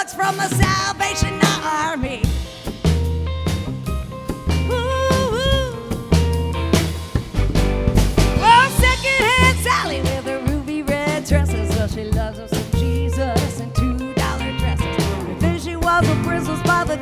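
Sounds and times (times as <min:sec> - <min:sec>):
drum kit beat: 0:00.0 - 0:17.0
live band playing country song: 0:00.0 - 0:17.0.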